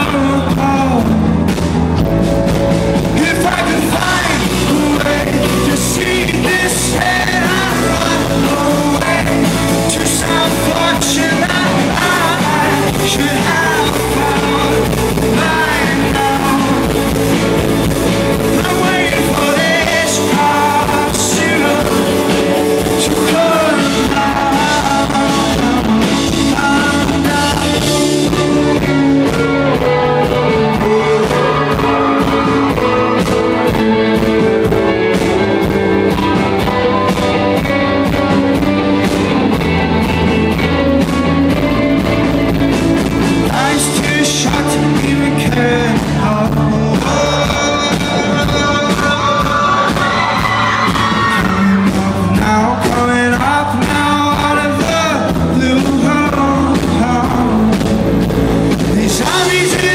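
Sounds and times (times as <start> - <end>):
person singing: 0.0 - 1.4, 3.0 - 40.8, 43.2 - 59.9
live rock band playing: 0.0 - 59.9.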